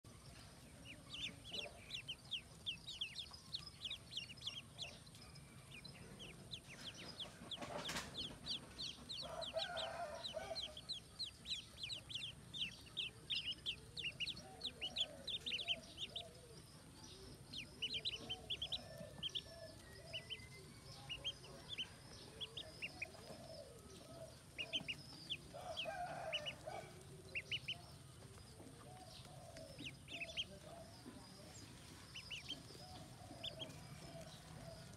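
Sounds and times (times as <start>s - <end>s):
ducklings peeping: 0.4s - 34.9s.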